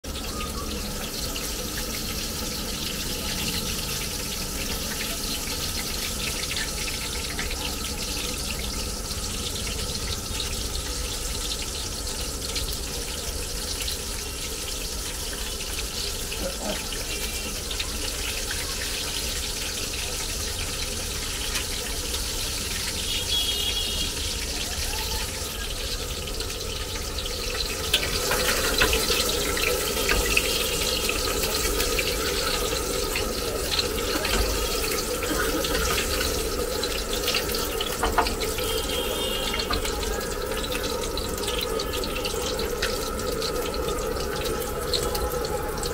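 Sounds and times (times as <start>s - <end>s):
garlic sizzling in hot oil: 0.1s - 45.9s.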